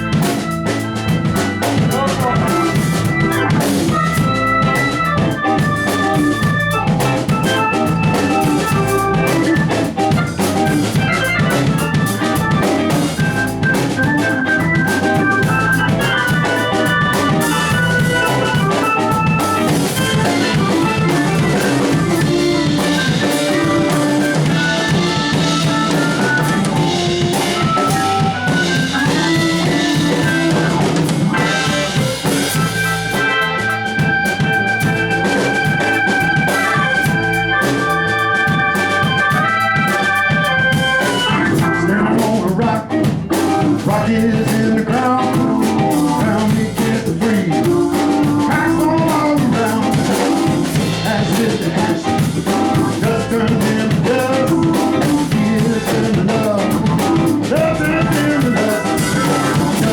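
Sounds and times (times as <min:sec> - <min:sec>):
band playing music: 0:00.0 - 0:59.9
drum kit: 0:00.0 - 0:59.9.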